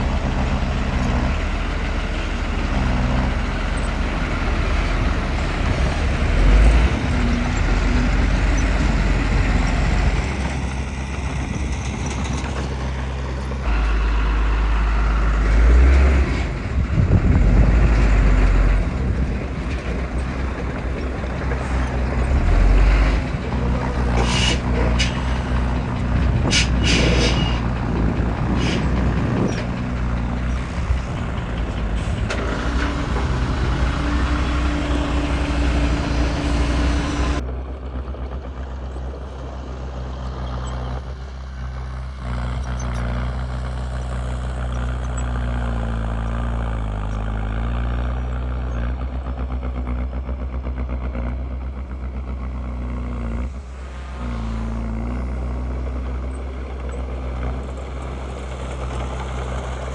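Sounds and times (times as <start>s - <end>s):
low engine drone: 0.0s - 45.4s, 48.1s - 59.9s
heavy diesel machinery running: 0.0s - 59.9s.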